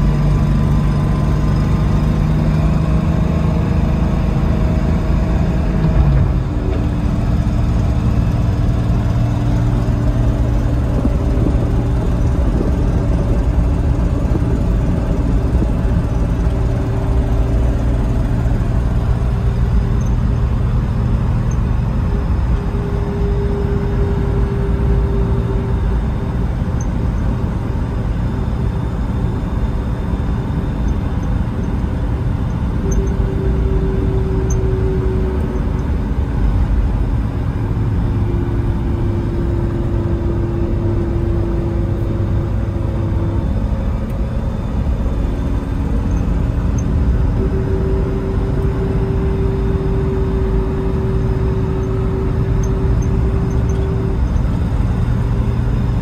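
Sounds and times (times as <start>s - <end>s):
low engine drone: 0.0s - 56.0s
road noise: 0.0s - 56.0s
high whine: 5.4s - 56.0s.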